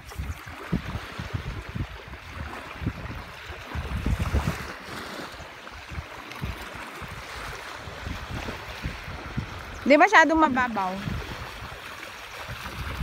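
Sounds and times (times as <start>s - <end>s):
small waves on the shoreline: 0.0s - 13.0s
wind buffeting the microphone: 0.0s - 13.0s.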